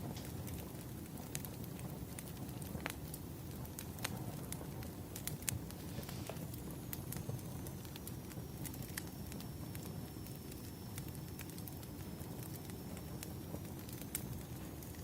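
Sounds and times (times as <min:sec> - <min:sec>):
low rumble of fire: 0:00.0 - 0:15.0
wood fire crackling: 0:00.0 - 0:15.0.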